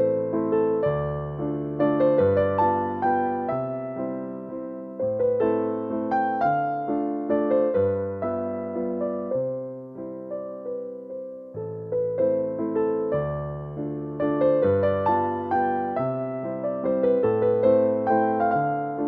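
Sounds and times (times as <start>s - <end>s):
soft piano melody: 0.0s - 19.0s.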